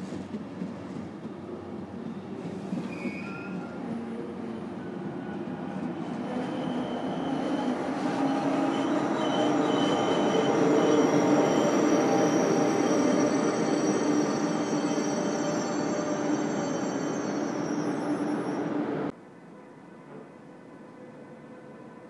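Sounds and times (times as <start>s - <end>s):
high-speed train passing: 0.0s - 19.2s.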